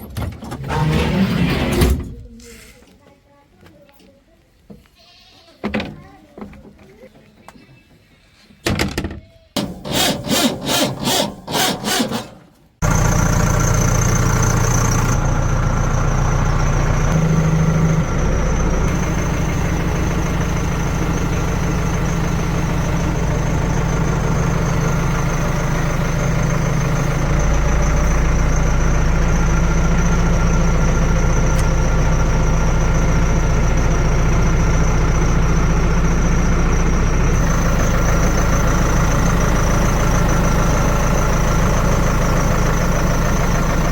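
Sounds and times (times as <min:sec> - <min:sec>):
heavy machine engine running: 0:00.1 - 0:02.3, 0:09.6 - 0:43.9.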